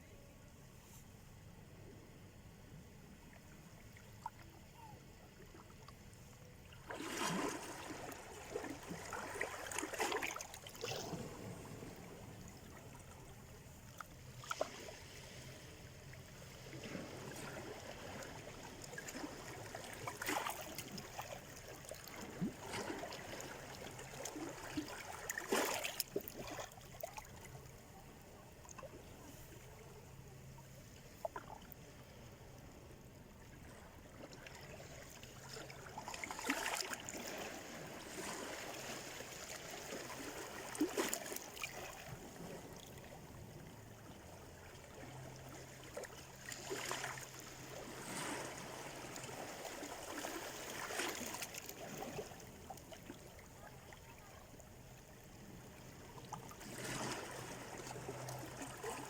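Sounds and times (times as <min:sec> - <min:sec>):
small waves splashing on shore: 0:06.7 - 0:30.1, 0:33.4 - 0:59.0.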